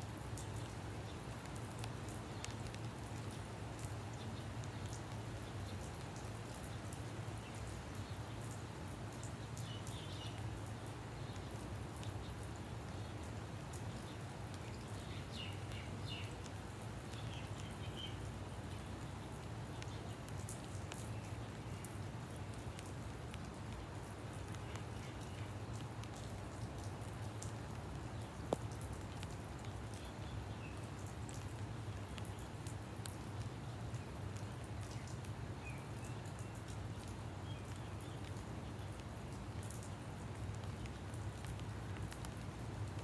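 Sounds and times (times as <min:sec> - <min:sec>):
light rain falling: 0:00.0 - 0:43.0.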